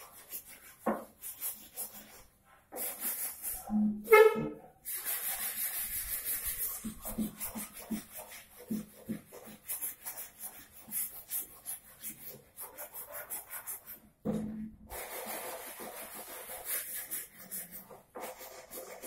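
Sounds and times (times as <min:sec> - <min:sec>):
sandpaper rubbing on wood: 0:00.0 - 0:02.2, 0:02.8 - 0:03.7, 0:04.9 - 0:14.0, 0:14.9 - 0:19.0.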